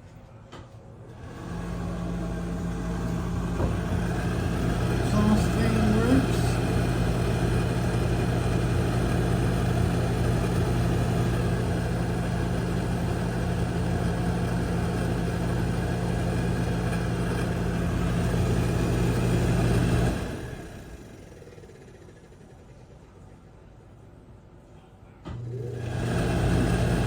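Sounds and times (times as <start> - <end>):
exhaust fan running: 0.2 - 27.0.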